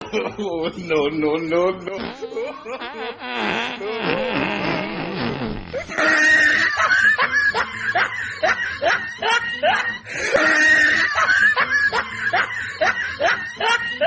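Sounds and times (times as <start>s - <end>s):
snickering laughter: 2.0s - 14.0s.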